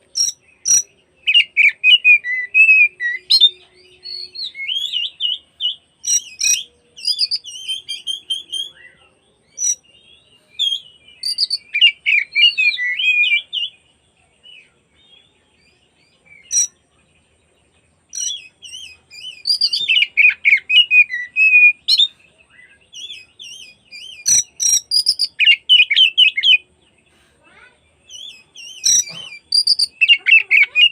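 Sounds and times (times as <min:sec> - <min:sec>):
songbird whistles and chirps: 0:00.0 - 0:30.9.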